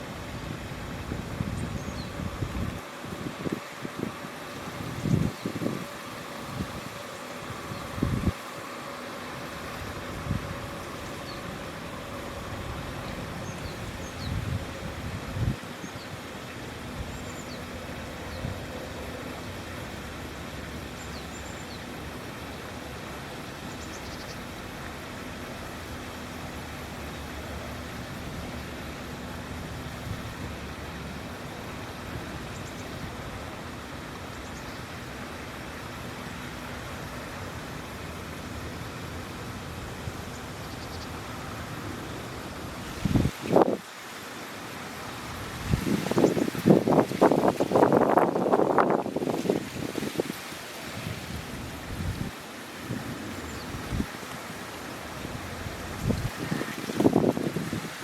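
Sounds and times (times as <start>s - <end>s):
outdoor background rush: 0.0s - 58.0s.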